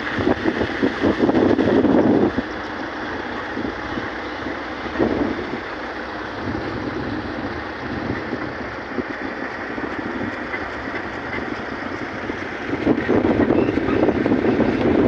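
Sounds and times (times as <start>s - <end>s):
vehicle running: 0.0s - 15.0s.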